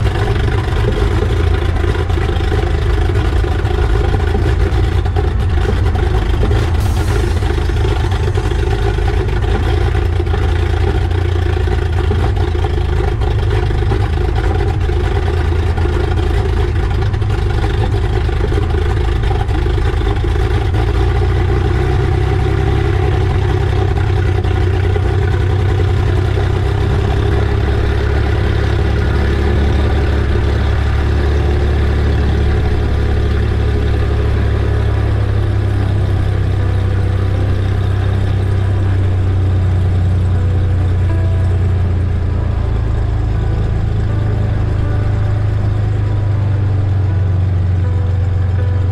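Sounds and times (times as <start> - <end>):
airplane engine droning in cabin: 0.0 - 48.9.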